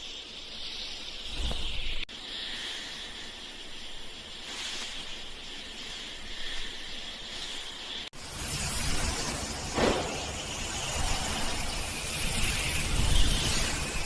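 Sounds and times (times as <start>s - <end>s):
snake hissing: 0.0s - 14.0s.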